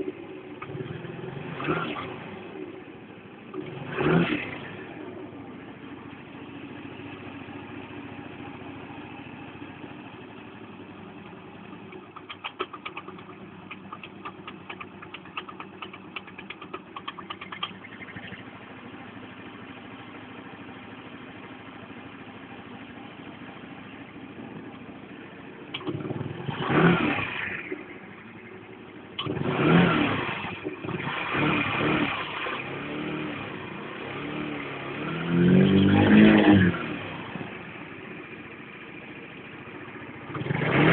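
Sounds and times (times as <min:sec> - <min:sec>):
scooter engine idling and revving: 0:00.0 - 0:40.9.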